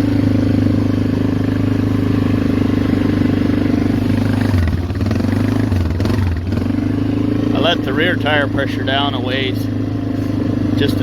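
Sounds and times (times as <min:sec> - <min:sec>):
atv engine running steadily: 0:00.0 - 0:11.0.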